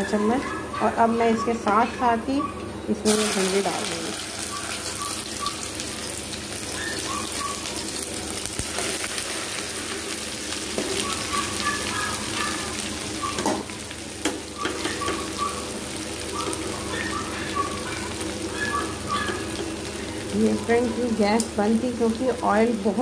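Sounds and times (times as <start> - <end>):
vegetables sizzling in hot oil: 3.0 - 23.0.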